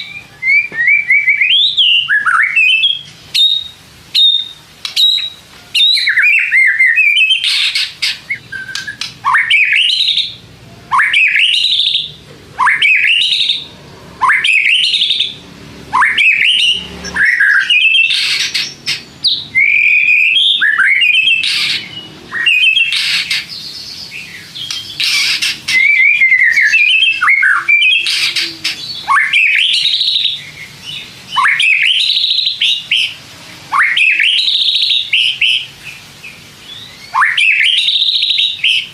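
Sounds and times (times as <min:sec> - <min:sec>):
bird singing whistled phrases: 0:00.0 - 0:35.7, 0:36.6 - 0:38.9
bird chattering: 0:00.0 - 0:38.9.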